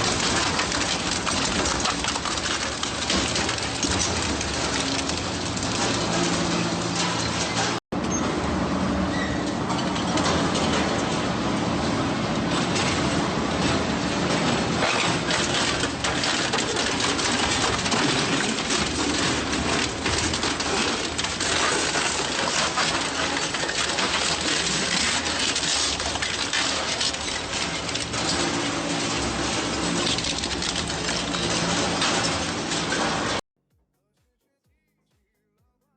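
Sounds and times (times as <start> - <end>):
metal shredder grinding: 0.0 - 33.4.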